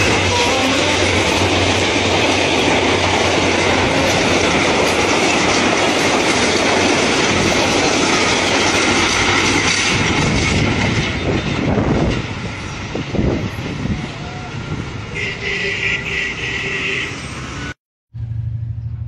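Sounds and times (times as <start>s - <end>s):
train wheels rushing on rails: 0.0s - 18.8s.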